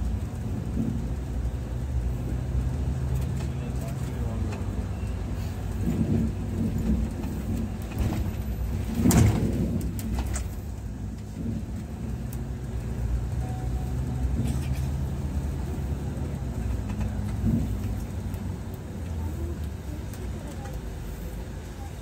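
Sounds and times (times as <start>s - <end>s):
diesel coach engine running: 0.0s - 22.0s
road noise: 0.0s - 22.0s.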